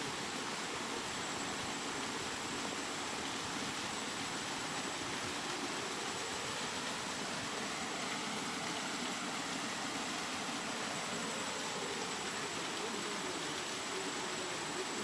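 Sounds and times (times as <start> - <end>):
rain hissing: 0.0 - 15.0.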